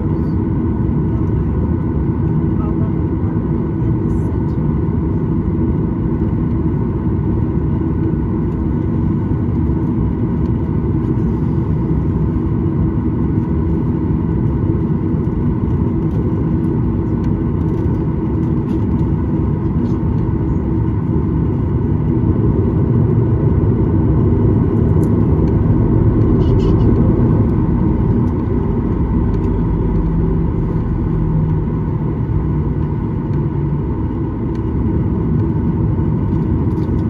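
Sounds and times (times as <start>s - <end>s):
airplane cabin taxiing rumble: 0.0s - 37.0s.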